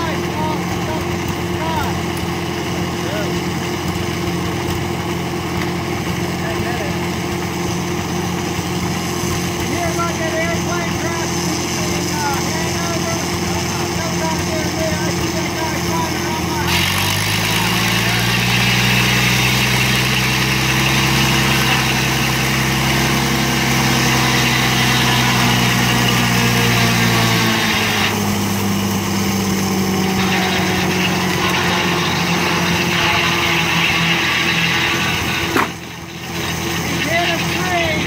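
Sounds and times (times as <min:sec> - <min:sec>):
circular saw whirring: 0:00.0 - 0:38.0
engine running: 0:00.0 - 0:38.0.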